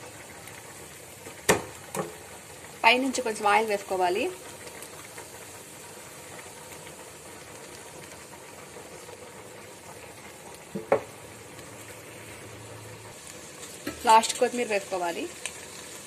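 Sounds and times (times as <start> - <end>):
prawns sizzling in oil: 0.0 - 16.0.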